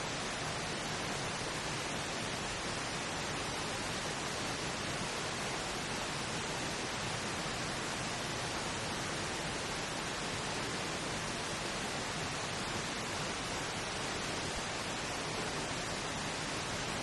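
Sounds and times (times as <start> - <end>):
steady pink noise hiss: 0.0 - 17.0.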